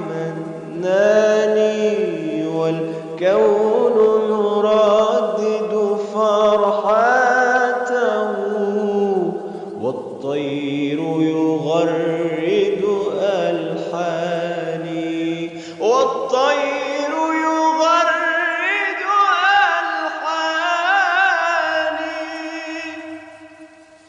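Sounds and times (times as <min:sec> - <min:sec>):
man singing devotional chant: 0:00.0 - 0:23.8.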